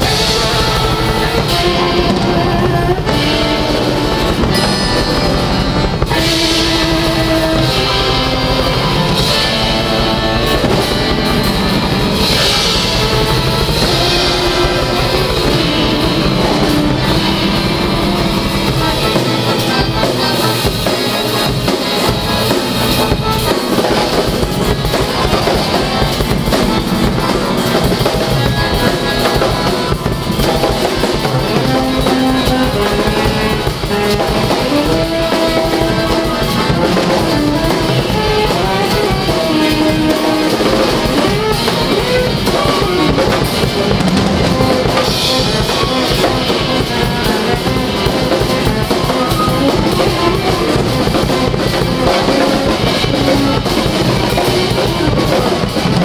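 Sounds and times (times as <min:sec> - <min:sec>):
continuous drumming: 0:00.0 - 0:56.0
held melodic notes: 0:00.0 - 0:56.0.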